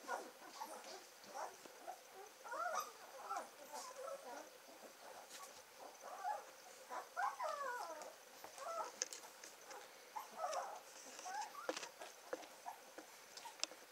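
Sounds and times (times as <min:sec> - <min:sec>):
puppies whimpering and squeaking: 0:00.0 - 0:12.8.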